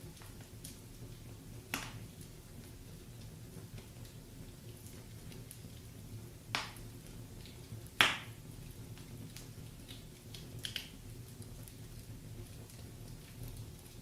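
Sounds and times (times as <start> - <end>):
fire rumbling: 0.0 - 14.0
small fire crackles: 0.0 - 14.0
wood fire sharp pops: 0.0 - 14.0.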